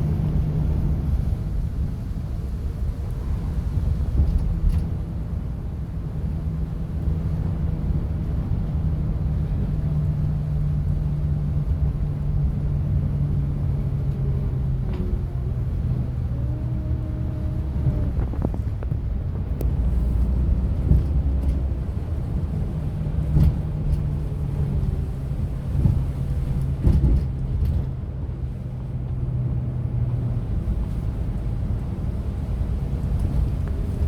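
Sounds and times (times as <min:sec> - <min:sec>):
low road rumble: 0:00.0 - 0:34.0.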